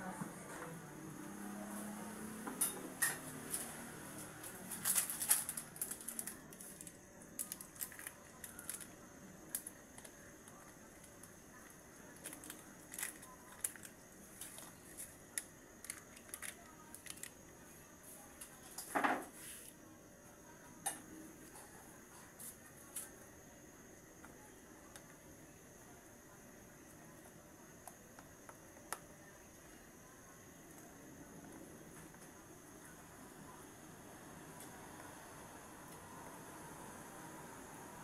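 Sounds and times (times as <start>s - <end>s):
gas stove hiss: 1.3s - 38.0s.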